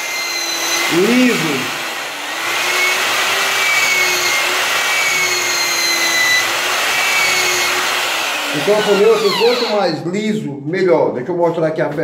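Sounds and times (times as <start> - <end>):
abrasive polishing metal: 0.0 - 9.9
cordless drill whirring: 0.0 - 10.0.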